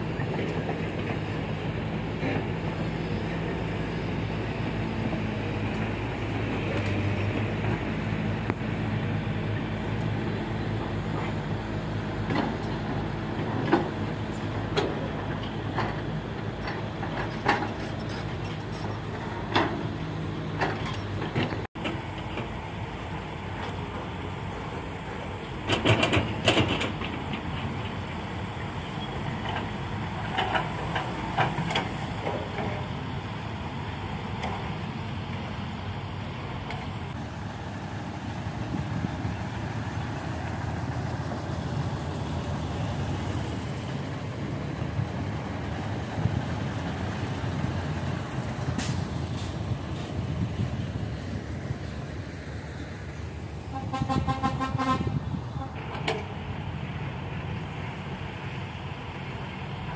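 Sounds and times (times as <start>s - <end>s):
heavy diesel machinery rumble: 0.0s - 59.9s.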